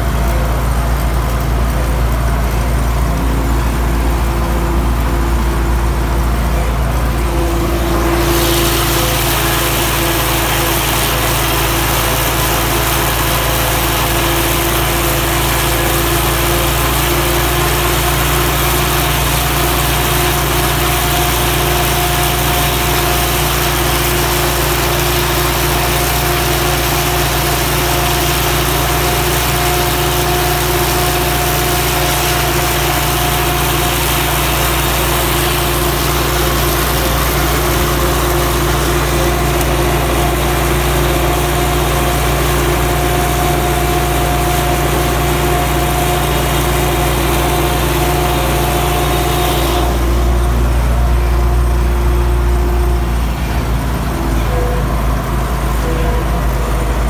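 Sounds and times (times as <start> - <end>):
diesel tractor engine running: 0.0 - 57.0
steady whine: 0.0 - 57.0.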